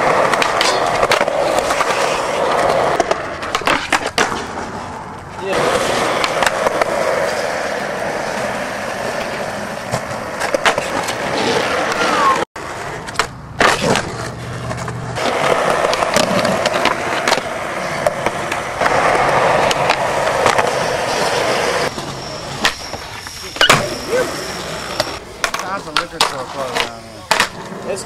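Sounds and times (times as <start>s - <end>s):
skateboard clacks: 0.0s - 24.0s, 24.9s - 28.0s
skateboard trucks grinding on ledge: 0.0s - 28.0s
skateboard wheels rolling on concrete: 0.0s - 28.0s.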